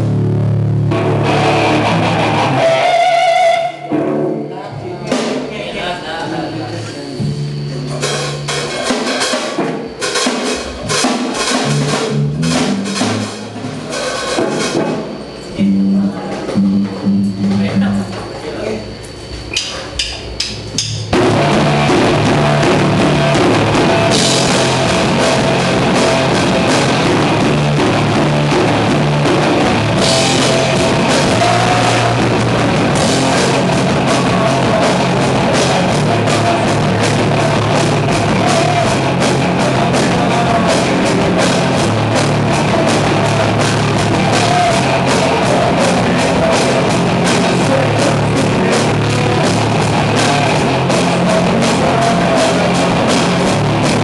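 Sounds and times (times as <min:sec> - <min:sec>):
bass guitar: 0:00.0 - 0:05.9, 0:06.5 - 0:09.7, 0:10.6 - 0:54.0
distorted guitars: 0:00.0 - 0:54.0
drum kit with cymbal hits: 0:00.0 - 0:54.0.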